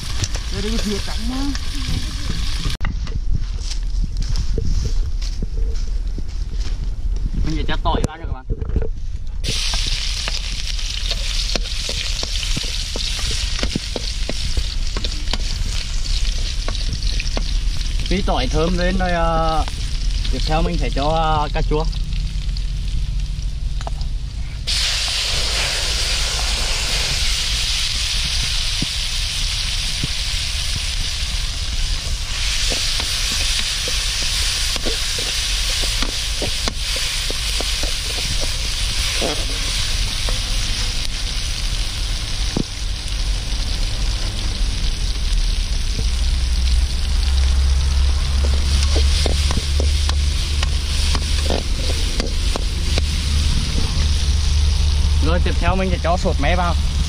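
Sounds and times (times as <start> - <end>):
food sizzling in hot oil: 0.0 - 2.8, 9.4 - 23.9, 24.6 - 57.0
low rumble: 0.0 - 57.0.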